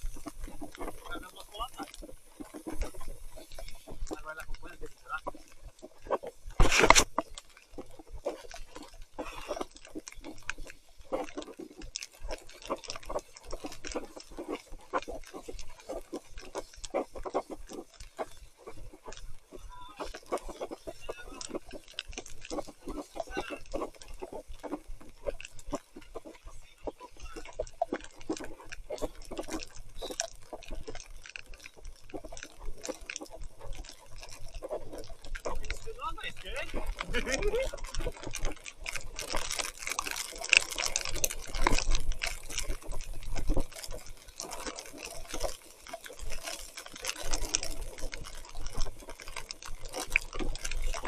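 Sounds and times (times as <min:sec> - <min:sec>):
bike tyres squelching through mud: 0:00.0 - 0:51.0.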